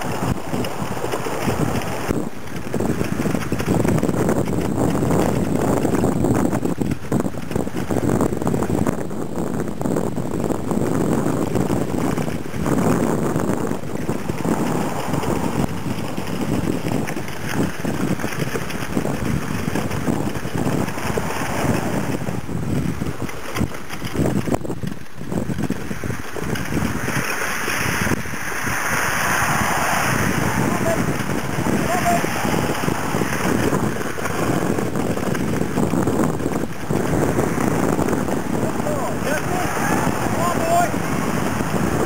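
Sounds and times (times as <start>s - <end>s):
cart rolling on dirt trail: 0.0s - 42.0s
wind buffeting microphone: 0.0s - 42.0s.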